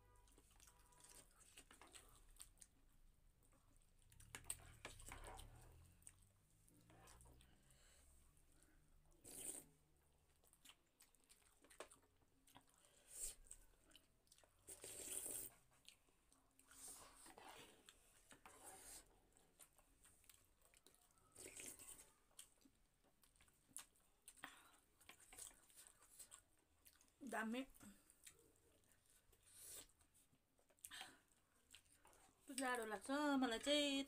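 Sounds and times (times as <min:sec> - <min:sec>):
people chewing and biting food: 0:00.1 - 0:32.6.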